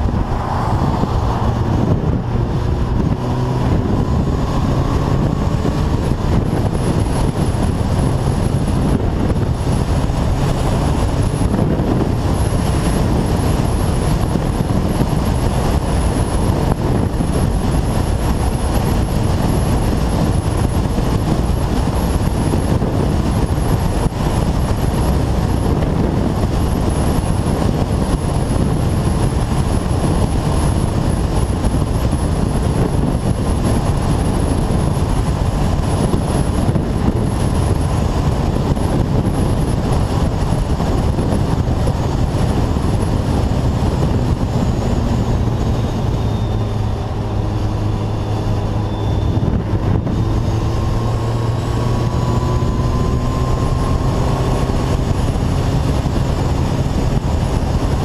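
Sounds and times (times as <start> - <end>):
motorcycle engine drone: 0.0 - 58.0
wind and road noise: 0.0 - 58.0.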